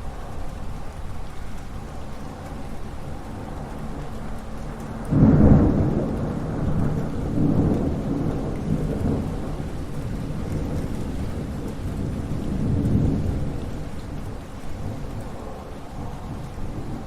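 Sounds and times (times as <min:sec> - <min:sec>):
steady rain: 0:00.0 - 0:17.0
thunder clap rumbling: 0:02.8 - 0:17.0.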